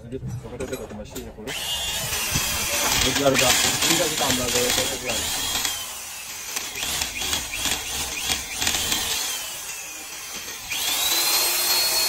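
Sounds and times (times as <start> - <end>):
drill bit rasping into metal: 1.5 - 12.0
high drill whine: 1.5 - 12.0.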